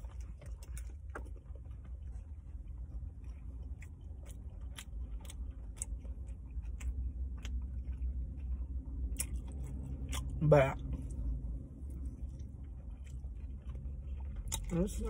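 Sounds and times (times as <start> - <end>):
low steady hum: 0.0 - 15.0
person chewing with mouth closed: 0.0 - 15.0.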